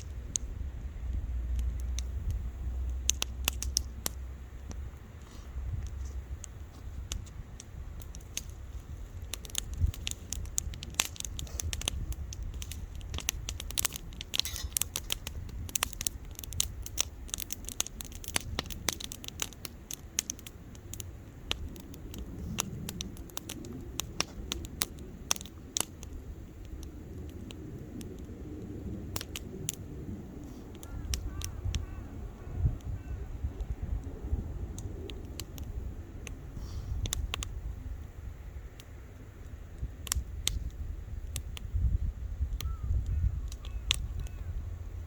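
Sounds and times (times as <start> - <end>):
bonfire crackling and popping: 0.0 - 45.0
low steady rumble: 0.0 - 45.0.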